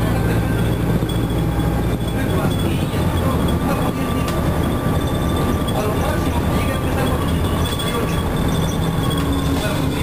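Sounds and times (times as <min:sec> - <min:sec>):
bus diesel engine rumble: 0:00.0 - 0:10.0
road noise: 0:00.0 - 0:10.0.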